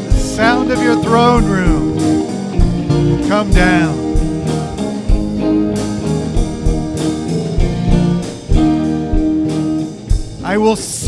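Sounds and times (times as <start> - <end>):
drum kit beat: 0.0 - 11.0
electric guitar chords strummed: 0.0 - 11.0.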